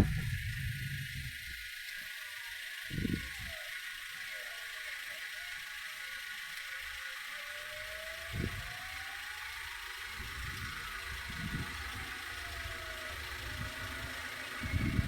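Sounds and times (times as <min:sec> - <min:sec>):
faint vehicle engine: 0:00.0 - 0:15.0
street traffic hiss: 0:00.0 - 0:15.0.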